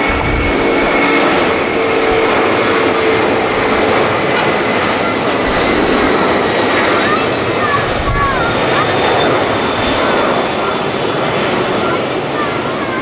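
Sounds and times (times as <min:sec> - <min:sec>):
high engine whine: 0:00.0 - 0:12.8
jet engines rushing: 0:00.0 - 0:13.0.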